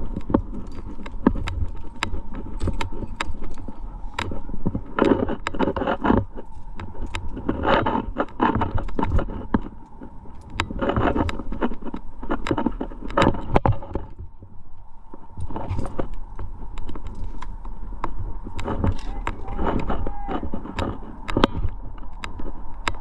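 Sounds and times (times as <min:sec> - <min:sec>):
climbing gear clinking: 0:00.0 - 0:14.3, 0:15.1 - 0:23.0
wind rumble on microphone: 0:00.0 - 0:23.0.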